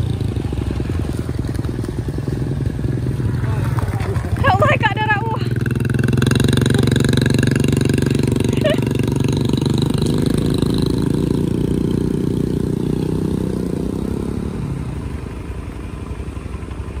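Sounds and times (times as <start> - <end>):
engine running close by: 0.0 - 17.0
small motorcycles pulling away: 0.0 - 17.0.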